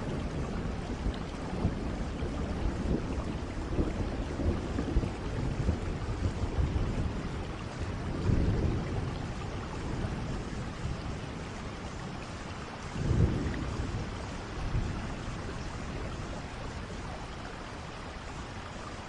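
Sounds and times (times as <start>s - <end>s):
thunder rolling: 0.0s - 11.5s, 12.9s - 17.2s
steady rain: 0.0s - 19.0s.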